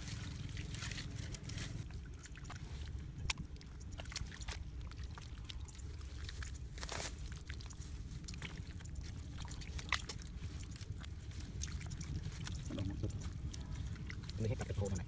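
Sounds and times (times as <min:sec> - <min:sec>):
hands patting wet mud: 0:00.0 - 0:15.0
low rumble: 0:00.0 - 0:15.0.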